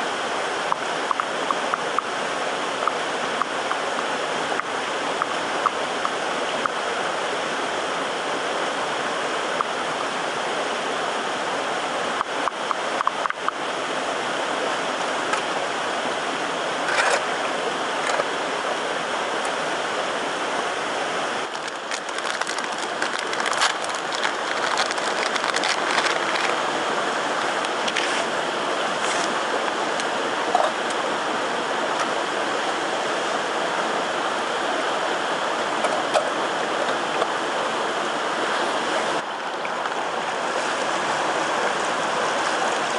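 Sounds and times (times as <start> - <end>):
stream rushing water: 0.0 - 42.9.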